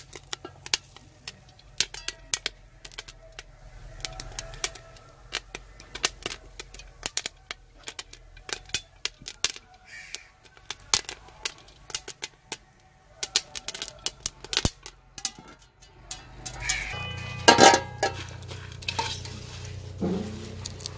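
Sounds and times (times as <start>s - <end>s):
popcorn popping in oil: 0.0s - 20.9s.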